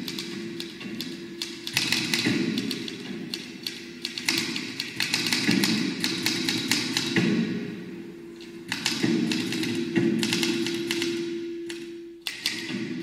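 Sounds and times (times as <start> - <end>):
irregular clicking and tapping: 0.0 - 7.4, 8.4 - 13.0
faint steady hum: 0.0 - 13.0.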